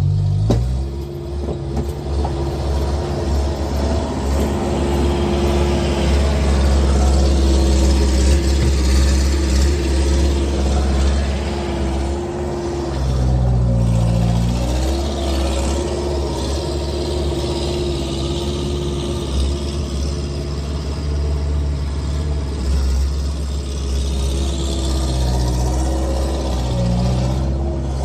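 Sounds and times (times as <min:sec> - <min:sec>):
skid steer engine running: 0:00.0 - 0:28.0.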